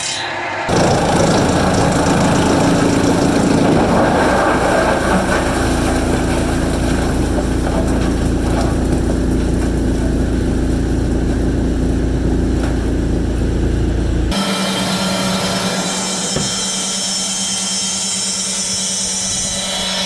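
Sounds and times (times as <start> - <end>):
machine hum: 0.0 - 20.0
sawmill machinery droning: 0.7 - 20.0.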